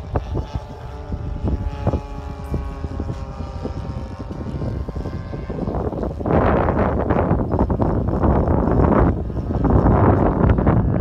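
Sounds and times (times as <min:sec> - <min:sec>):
model plane engine droning: 0:00.0 - 0:11.0
wind on microphone: 0:00.0 - 0:11.0.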